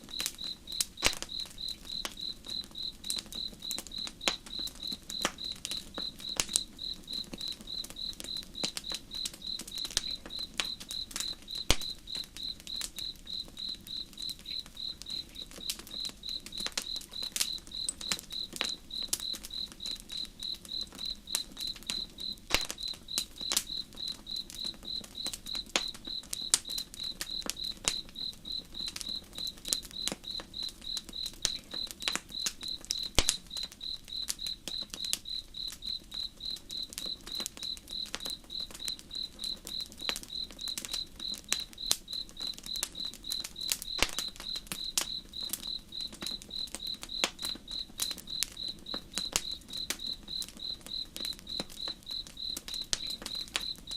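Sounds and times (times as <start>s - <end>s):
burning wood popping: 0.0s - 53.9s
crackling campfire: 0.0s - 53.9s
cricket chirping: 0.0s - 53.9s.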